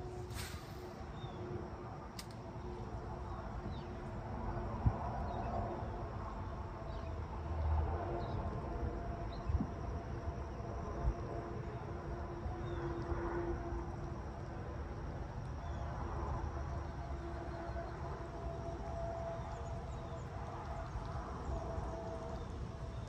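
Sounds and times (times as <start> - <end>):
low rumble and hiss: 0.0 - 23.0.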